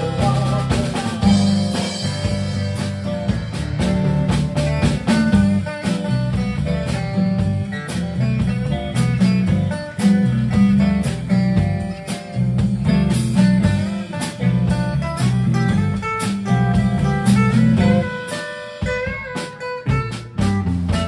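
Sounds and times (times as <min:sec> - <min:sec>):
drum kit steady beat: 0:00.0 - 0:21.0
electric guitars: 0:00.0 - 0:21.0.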